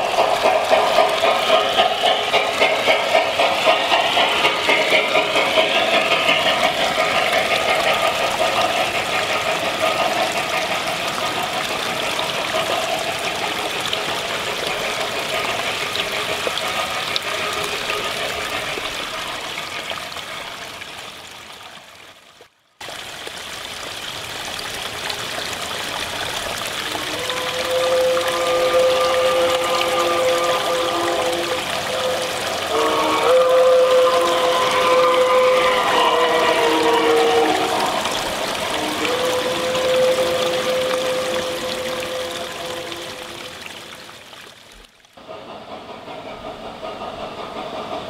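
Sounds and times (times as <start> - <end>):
model train running on track: 0.0 - 48.0.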